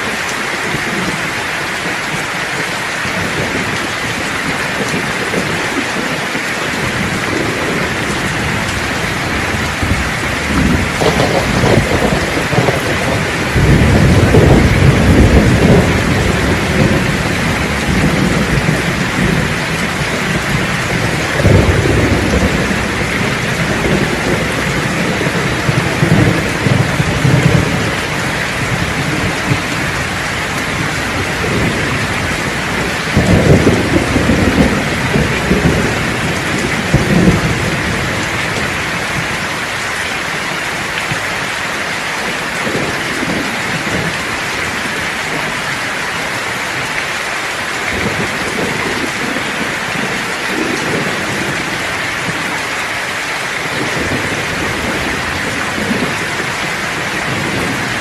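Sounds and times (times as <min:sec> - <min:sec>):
heavy rain hiss: 0:00.0 - 0:58.0
rolling thunder: 0:03.0 - 0:39.6, 0:42.2 - 0:45.6, 0:47.9 - 0:52.7, 0:53.6 - 0:58.0.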